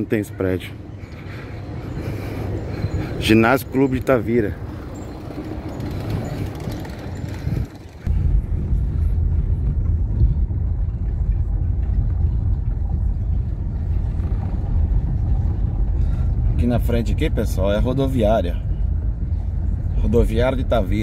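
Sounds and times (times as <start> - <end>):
car cabin road and engine rumble: 0.0 - 21.0
street traffic passing: 0.0 - 21.0.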